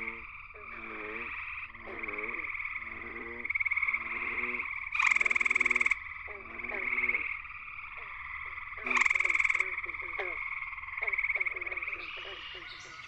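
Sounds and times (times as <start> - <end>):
chorus of treefrogs trilling: 0.0 - 13.0
low frog calls: 0.0 - 13.0
treefrog musical trill: 0.0 - 13.0.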